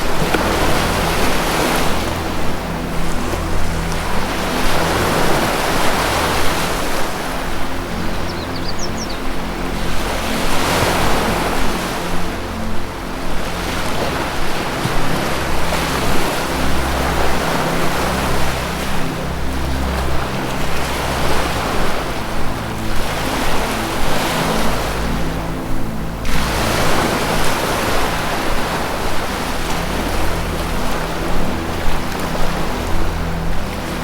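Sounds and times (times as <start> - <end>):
low music drone: 0.0 - 34.0
ocean surf waves: 0.0 - 34.0.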